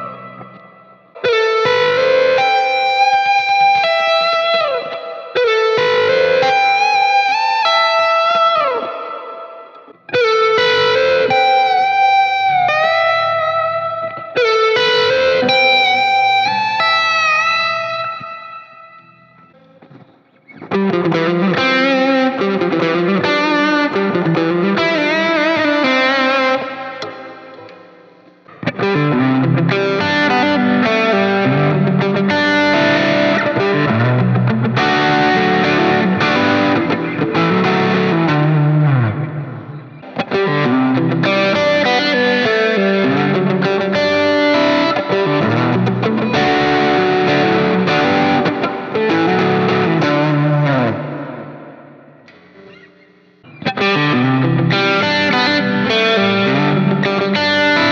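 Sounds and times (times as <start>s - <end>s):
overdriven electric guitar licks: 0.0s - 57.9s.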